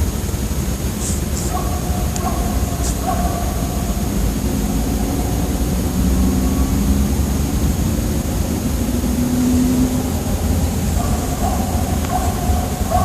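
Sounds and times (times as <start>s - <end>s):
faint wavering hum: 0.0s - 13.0s
low droning rumble from sky: 0.0s - 13.0s.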